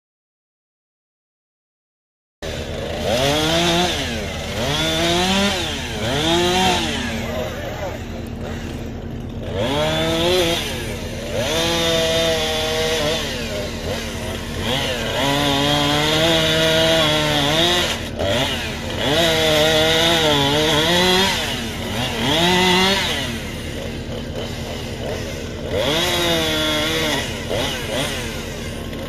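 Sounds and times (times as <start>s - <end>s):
chainsaw revving: 2.4s - 29.0s.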